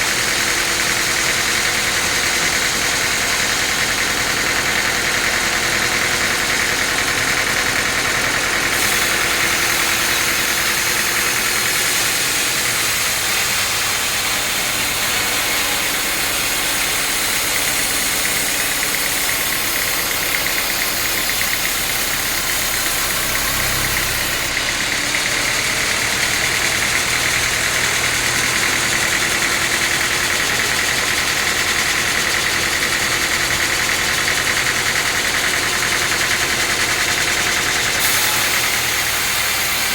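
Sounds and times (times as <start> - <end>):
sawmill machinery sawing: 0.0 - 39.9.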